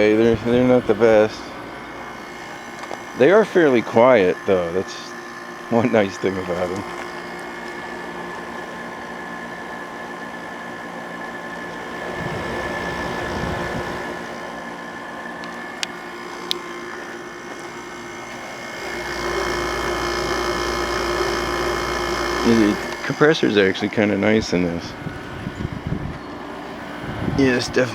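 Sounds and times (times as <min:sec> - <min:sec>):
air conditioner running: 0:00.0 - 0:27.9.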